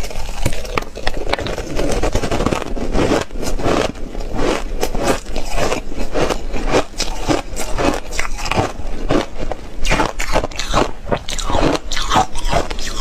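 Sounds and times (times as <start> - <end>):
ice crunching while chewed: 0.0 - 13.0.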